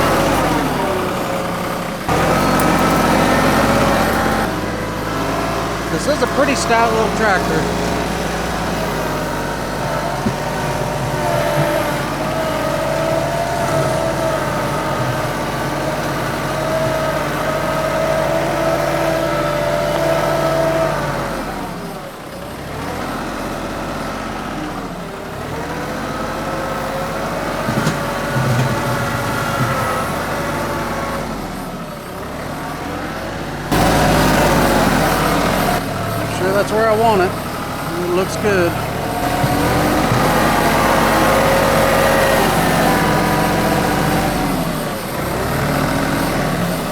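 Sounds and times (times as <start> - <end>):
diesel tractor engine under load: 0.0 - 46.9.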